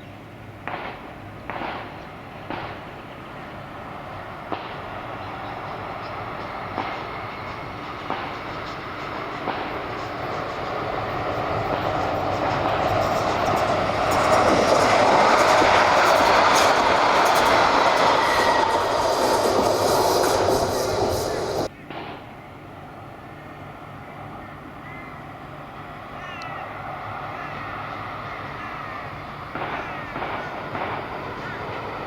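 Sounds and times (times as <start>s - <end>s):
tram wheels running on rails: 0.6s - 21.7s, 25.7s - 32.0s.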